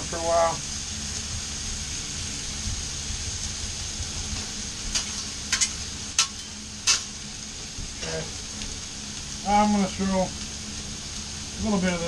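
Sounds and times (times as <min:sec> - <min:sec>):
vegetables sizzling on a griddle: 0:00.0 - 0:12.0.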